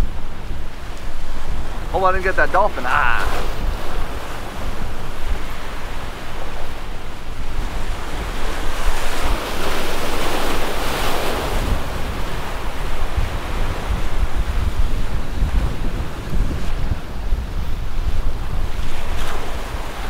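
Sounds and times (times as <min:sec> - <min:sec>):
waves washing against rocks: 0:00.0 - 0:20.0
wind buffeting microphone: 0:00.0 - 0:20.0.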